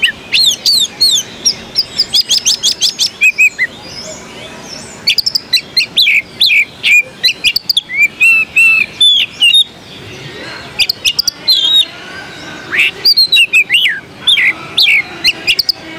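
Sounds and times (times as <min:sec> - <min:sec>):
bird singing chirps and whistles: 0:00.0 - 0:15.9.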